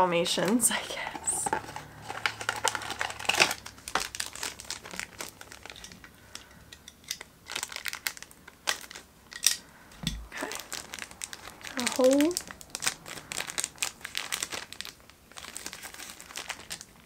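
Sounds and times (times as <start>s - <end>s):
packaging crinkling and rustling: 0.4s - 17.0s.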